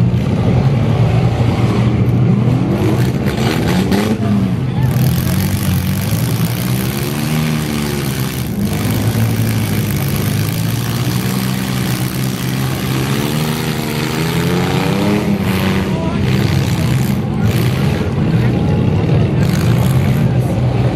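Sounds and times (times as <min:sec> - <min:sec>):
car engines revving: 0:00.0 - 0:20.9.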